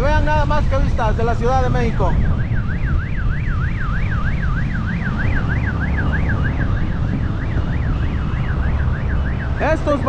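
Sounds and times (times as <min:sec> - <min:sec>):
motorcycle road rumble: 0:00.0 - 0:10.0
siren yelping: 0:00.0 - 0:10.0
wind rushing: 0:00.0 - 0:10.0.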